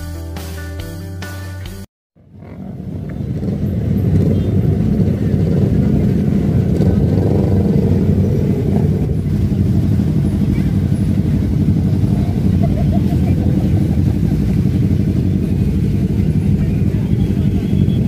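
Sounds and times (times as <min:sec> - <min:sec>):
racing motorcycle engines running: 0:02.2 - 0:18.0.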